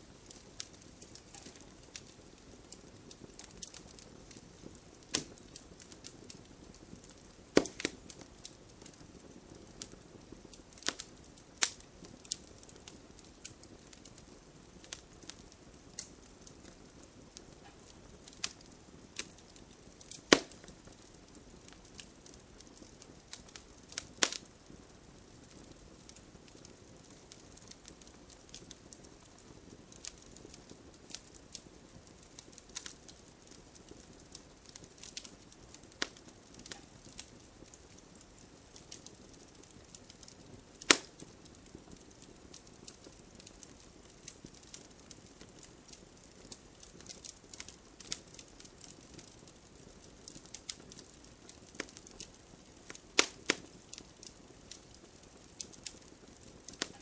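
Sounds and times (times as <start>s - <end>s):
wood fire crackling: 0.0s - 57.0s
sharp fire pops: 0.1s - 57.0s.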